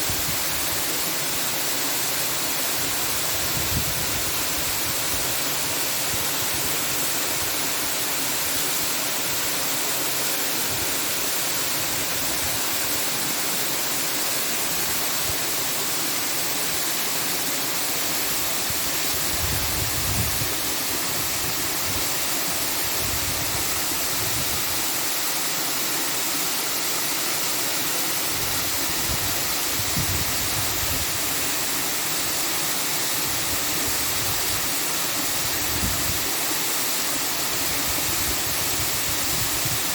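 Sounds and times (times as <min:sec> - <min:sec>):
loud rushing hiss: 0:00.0 - 0:39.9.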